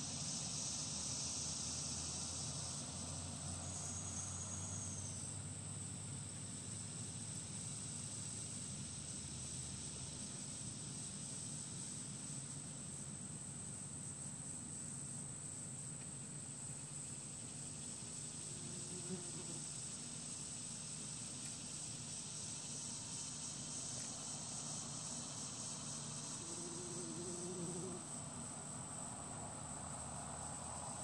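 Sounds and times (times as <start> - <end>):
high-pitched insect trill: 0.0 - 31.0.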